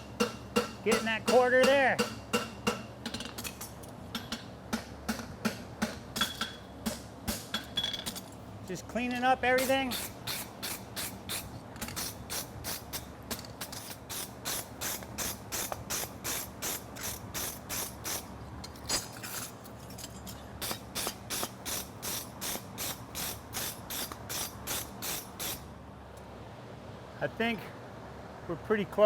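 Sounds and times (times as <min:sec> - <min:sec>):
fan humming: 0:00.0 - 0:29.0.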